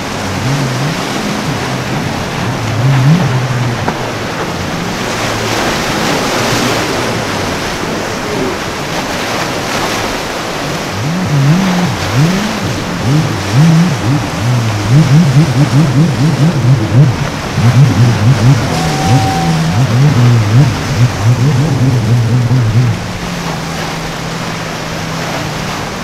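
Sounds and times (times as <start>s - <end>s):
crashing surf: 0.0s - 26.0s
outboard engines droning: 0.0s - 26.0s
wind: 0.0s - 26.0s.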